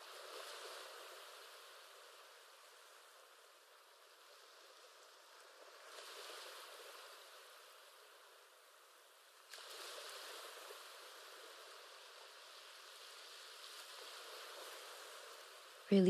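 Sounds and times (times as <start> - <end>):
soft surf rushing: 0.0 - 16.0.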